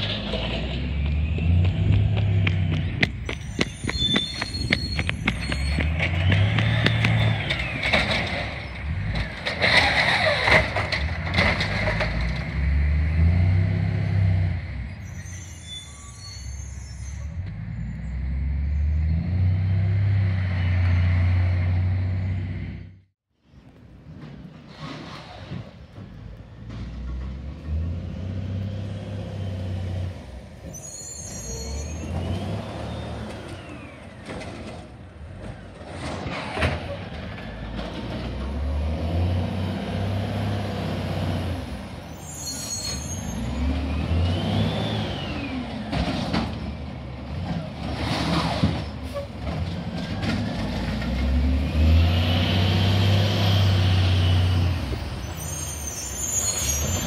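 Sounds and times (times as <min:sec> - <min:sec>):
diesel engine revving: 0:00.0 - 0:03.0, 0:05.2 - 0:15.1, 0:17.3 - 0:23.1, 0:26.5 - 0:30.7, 0:31.4 - 0:57.0.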